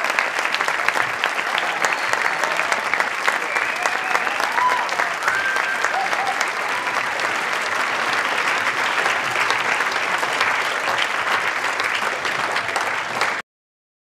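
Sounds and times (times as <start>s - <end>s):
audience applauding and cheering: 0.0s - 13.4s.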